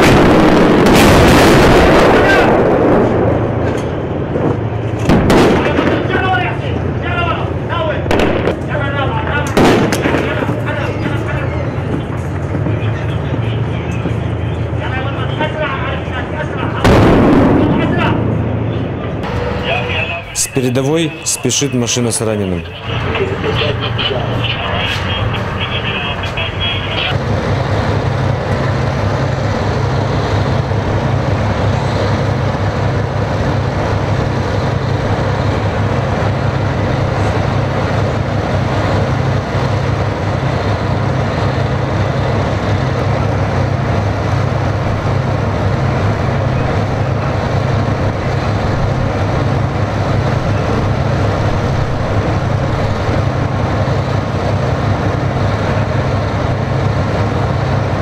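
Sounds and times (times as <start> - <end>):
diesel engine running loud: 0.0 - 58.0.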